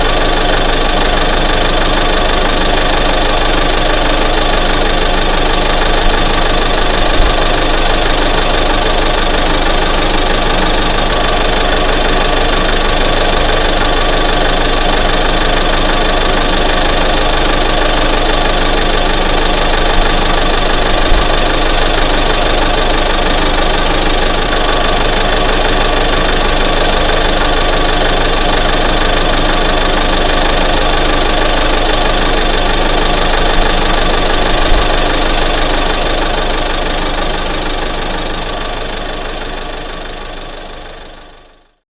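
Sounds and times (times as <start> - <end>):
pickup truck engine running: 0.0 - 41.8.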